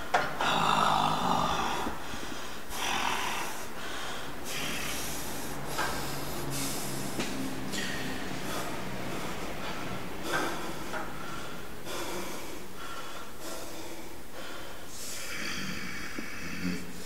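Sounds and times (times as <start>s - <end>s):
man breathing hard: 0.0s - 17.0s.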